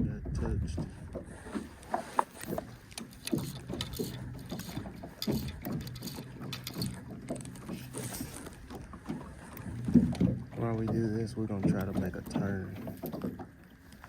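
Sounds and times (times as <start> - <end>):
water slapping boat hull: 0.0 - 14.0.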